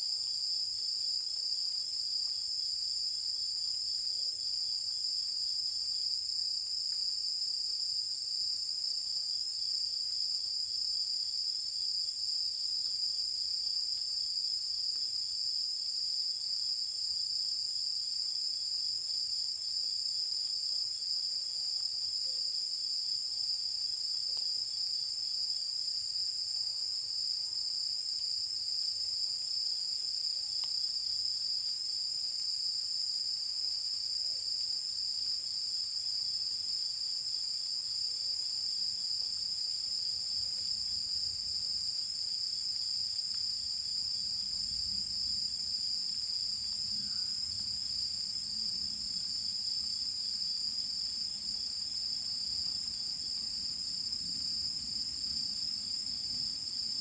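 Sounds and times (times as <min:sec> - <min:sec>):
night insects chorus: 0:00.1 - 0:57.0.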